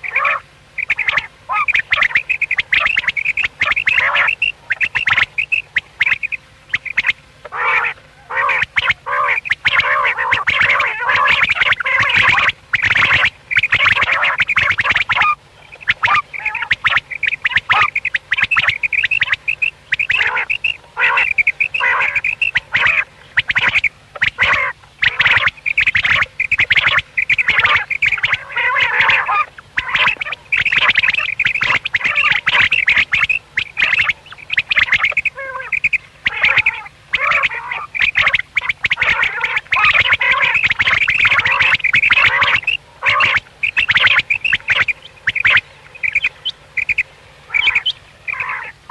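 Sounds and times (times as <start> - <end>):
quail calling: 0.0 - 48.9.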